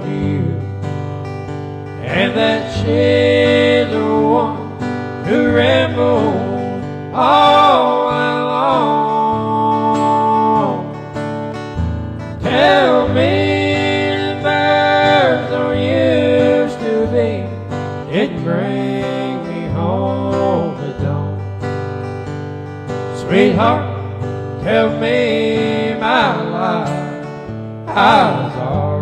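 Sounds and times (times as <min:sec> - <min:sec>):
man singing country song: 0:00.0 - 0:21.8, 0:22.9 - 0:29.0
acoustic guitar strumming: 0:00.0 - 0:29.0.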